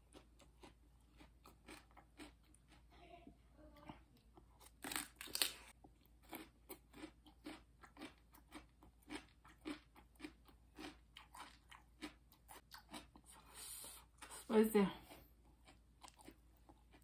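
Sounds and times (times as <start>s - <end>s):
crunchy chewing of radish: 0.0s - 2.9s, 4.4s - 17.0s.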